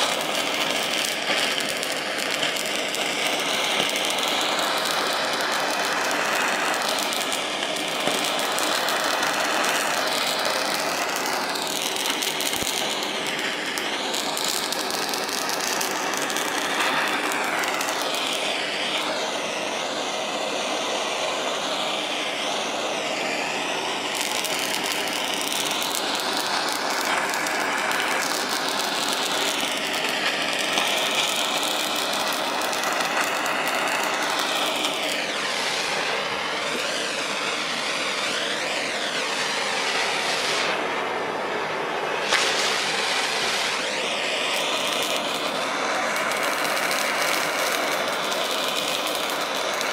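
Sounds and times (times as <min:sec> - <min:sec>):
gas torch flame hissing: 0:00.0 - 0:49.9.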